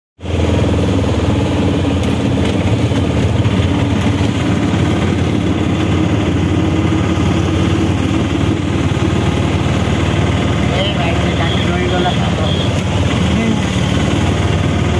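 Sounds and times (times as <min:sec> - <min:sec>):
auto-rickshaw engine chugging: 0:00.2 - 0:14.9.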